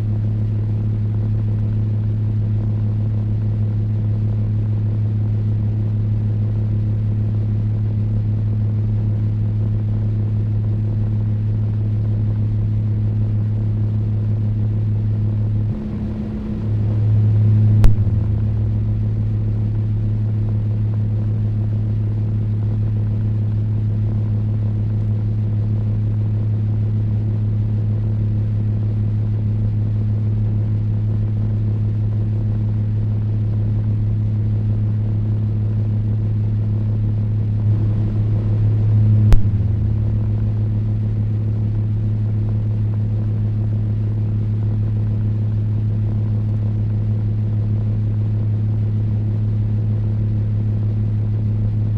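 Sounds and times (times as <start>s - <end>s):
fan motor hum: 0.0s - 51.9s.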